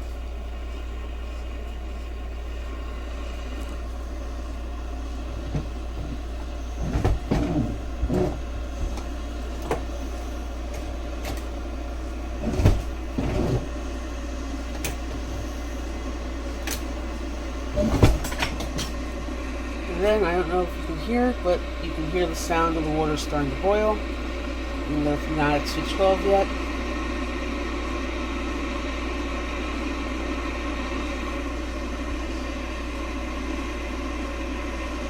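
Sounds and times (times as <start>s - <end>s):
electric kettle heating water: 0.0s - 35.0s.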